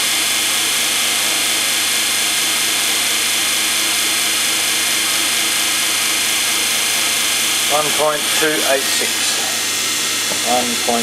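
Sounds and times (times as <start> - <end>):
electric motor hum: 0.0 - 11.0
fan rushing air: 0.0 - 11.0.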